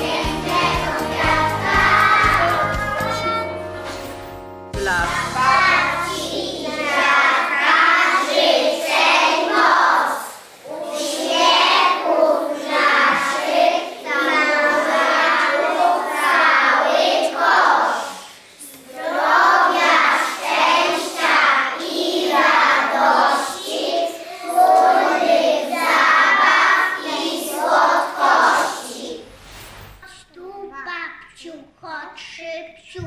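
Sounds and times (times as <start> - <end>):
children singing: 0.0 - 3.8, 4.8 - 29.4.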